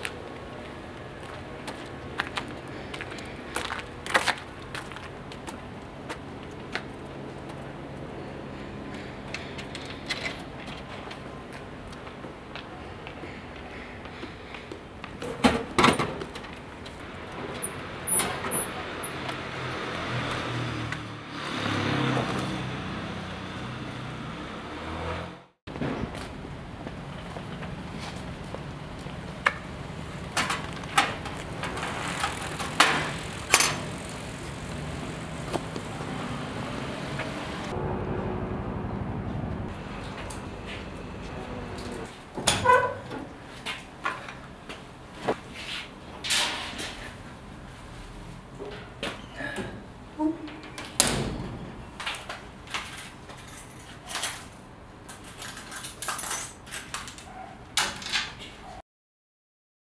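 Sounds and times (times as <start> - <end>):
low street hum: 0.0 - 57.8.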